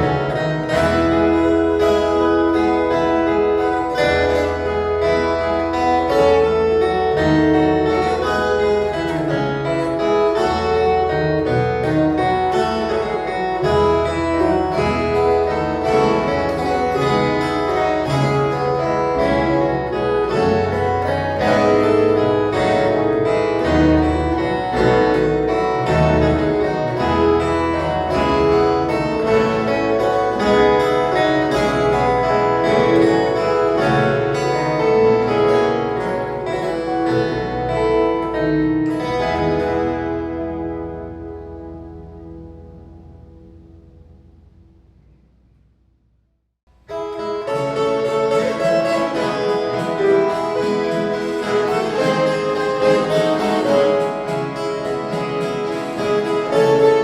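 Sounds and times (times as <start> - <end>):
plucked steel strings: 0.0 - 45.6, 46.8 - 57.0
bass line: 0.0 - 47.1.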